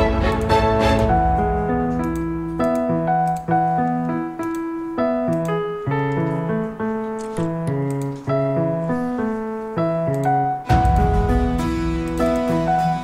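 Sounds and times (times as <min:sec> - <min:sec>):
piano melody over chords: 0:00.0 - 0:13.0.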